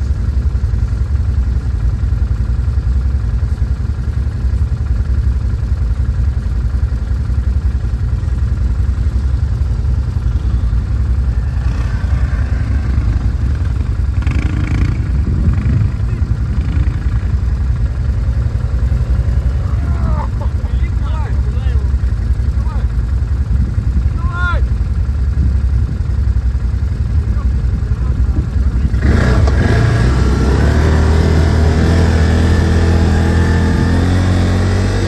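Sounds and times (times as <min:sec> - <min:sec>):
quad bike engine running: 0:00.0 - 0:35.0.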